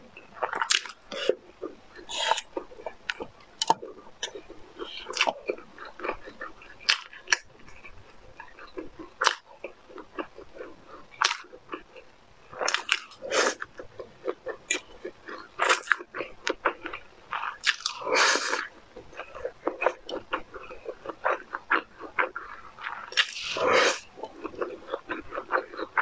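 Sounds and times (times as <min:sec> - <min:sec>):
wet chewing: 0:00.2 - 0:26.0.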